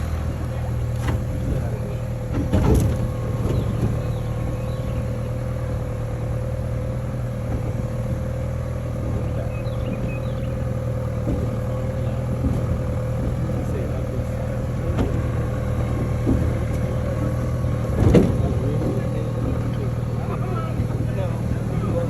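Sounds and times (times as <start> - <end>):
engine hum with thin whine: 0.0 - 22.0
brief knocks: 0.6 - 22.0.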